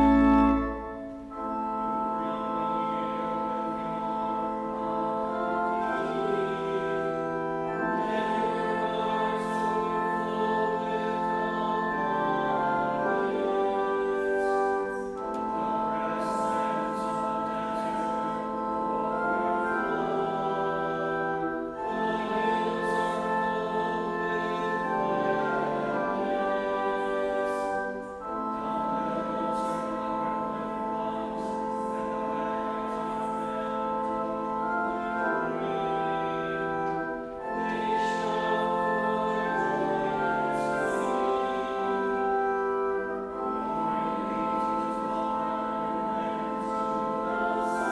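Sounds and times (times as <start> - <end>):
congregation singing a psalm: 0.0 - 47.9
organ chords: 0.0 - 47.9.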